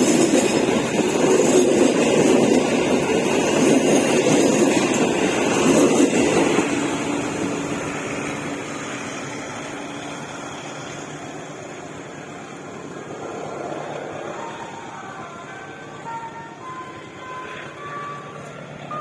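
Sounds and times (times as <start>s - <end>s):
passenger train rumbling past: 0.0s - 19.0s.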